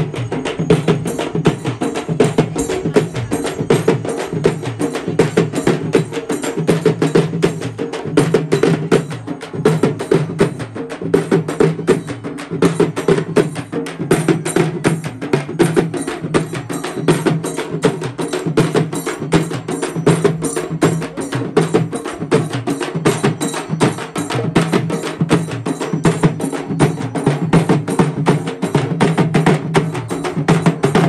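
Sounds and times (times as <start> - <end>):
frame drums beaten in rhythm: 0.0 - 31.0.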